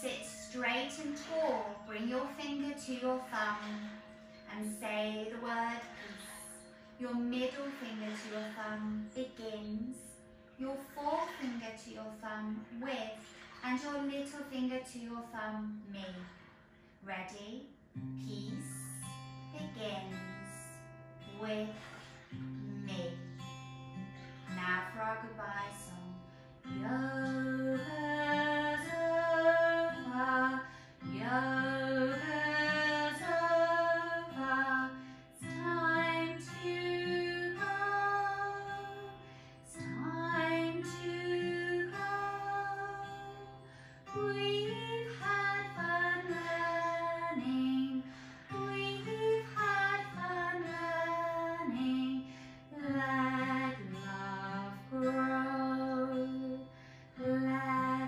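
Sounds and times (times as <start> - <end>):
woman singing: 0.0 - 16.3, 18.2 - 22.0, 22.6 - 23.4, 24.5 - 58.0.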